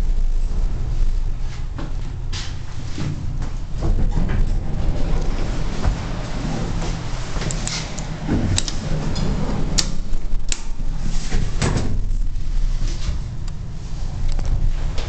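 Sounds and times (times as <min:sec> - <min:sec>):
elevator low hum: 0:00.0 - 0:15.0.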